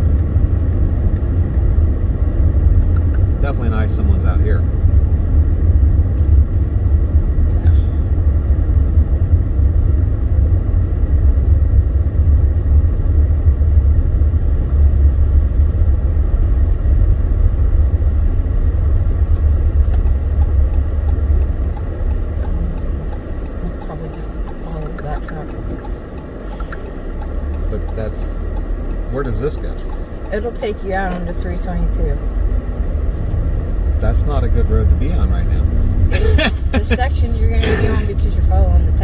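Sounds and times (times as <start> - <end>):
car driving on snow: 0.0 - 39.0.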